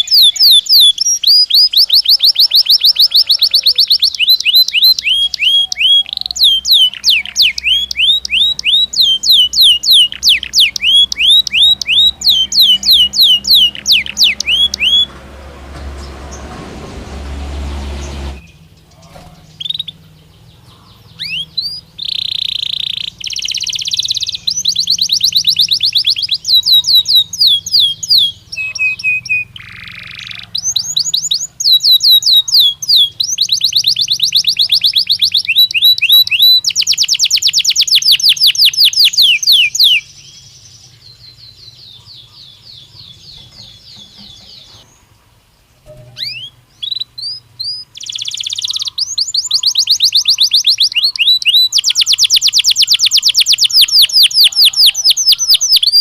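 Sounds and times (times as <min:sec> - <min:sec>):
canary singing trills: 0:00.0 - 0:16.5, 0:17.7 - 0:56.0.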